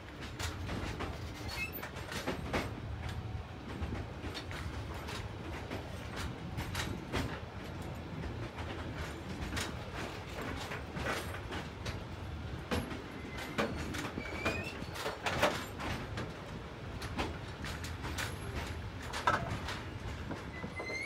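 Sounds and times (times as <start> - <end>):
wheels and couplings clacking: 0.0 - 21.0
freight wagons rumbling: 0.1 - 21.0.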